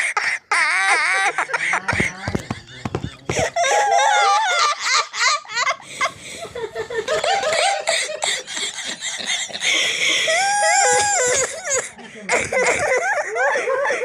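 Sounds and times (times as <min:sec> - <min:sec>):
boy laughing: 0:00.5 - 0:14.0.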